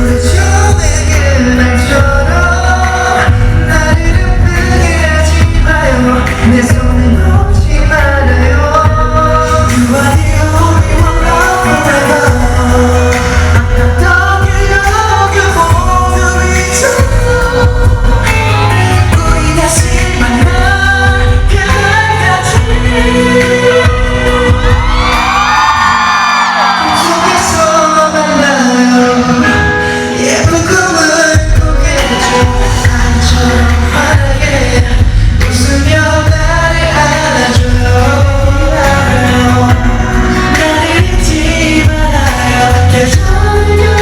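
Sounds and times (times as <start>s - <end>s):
steady bass beat: 0.0s - 25.8s, 31.4s - 44.0s
person singing pop ballad: 0.0s - 44.0s.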